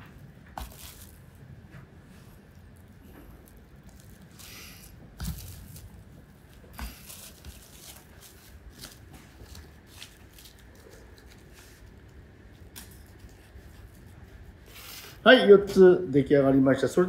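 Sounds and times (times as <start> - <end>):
cling film crinkling: 0.4 - 1.7, 2.4 - 15.0.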